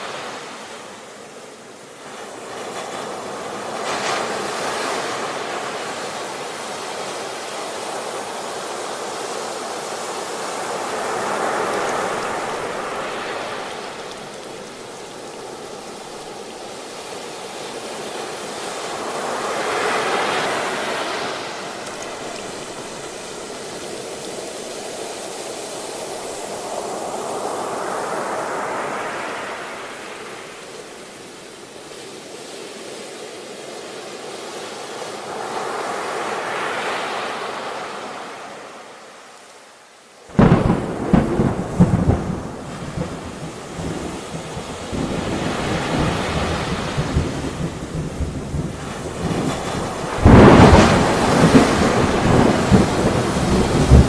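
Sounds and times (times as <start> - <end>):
waves breaking: 0.0 - 39.2, 40.3 - 54.0.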